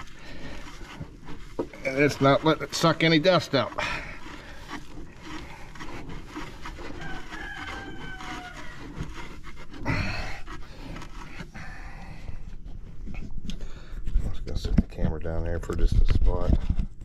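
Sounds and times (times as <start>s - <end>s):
hand scraping sawdust: 0.0s - 14.0s.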